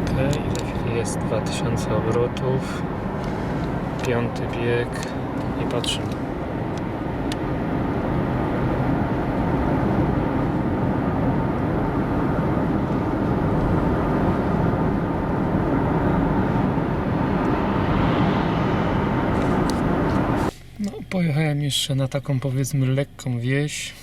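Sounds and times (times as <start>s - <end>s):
road noise: 0.0s - 21.3s
car engine drone: 0.0s - 24.0s.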